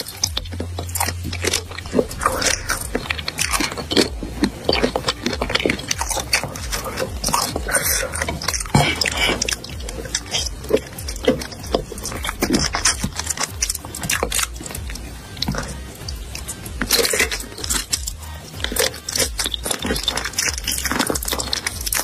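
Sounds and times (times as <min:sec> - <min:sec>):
mouth clicks: 0:00.0 - 0:22.0
wet chewing and biting: 0:00.0 - 0:22.0.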